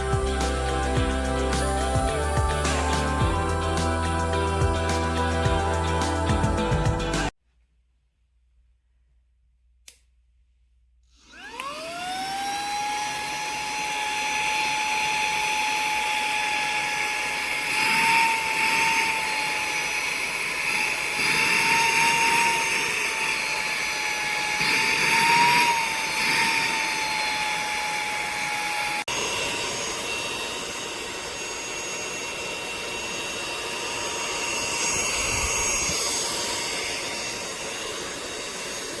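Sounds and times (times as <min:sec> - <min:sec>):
handheld vacuum motor whine: 0:00.0 - 0:07.3, 0:11.1 - 0:39.0.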